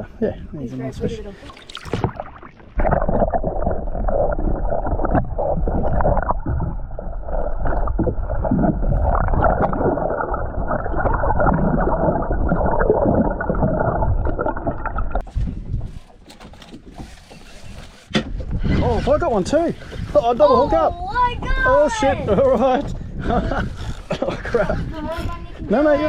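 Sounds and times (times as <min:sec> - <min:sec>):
underwater sloshing and gurgling: 0:00.8 - 0:25.7.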